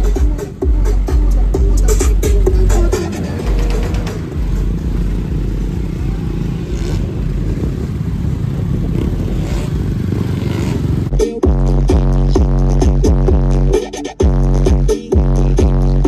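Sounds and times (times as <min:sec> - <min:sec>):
motorcycles and car pulling away: 0:00.0 - 0:16.0.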